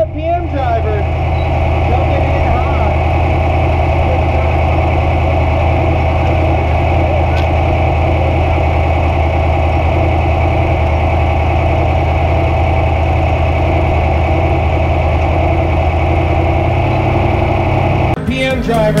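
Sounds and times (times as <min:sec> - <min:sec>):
race engine idling: 0:00.0 - 0:19.0.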